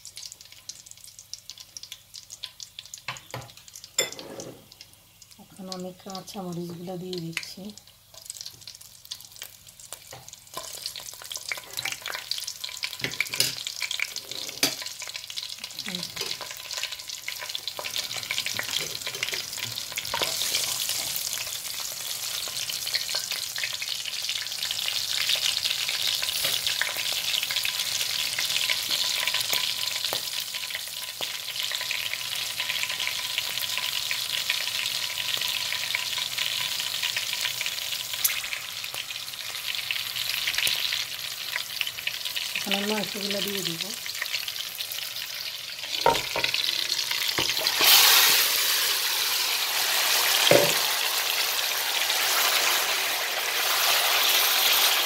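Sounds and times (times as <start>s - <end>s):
chillies sizzling in hot oil: 0.0s - 55.0s.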